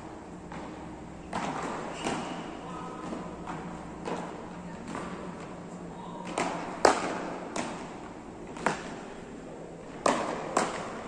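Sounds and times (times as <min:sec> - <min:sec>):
paddles hitting ball: 0:00.4 - 0:05.5, 0:06.2 - 0:09.0, 0:09.8 - 0:11.0.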